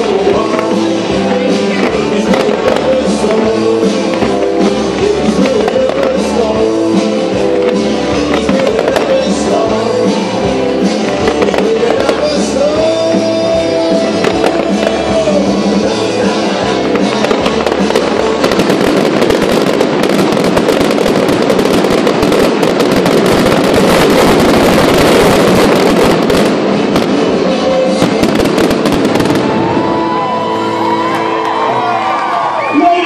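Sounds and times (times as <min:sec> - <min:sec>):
fireworks crackling and banging: 0:00.0 - 0:33.0.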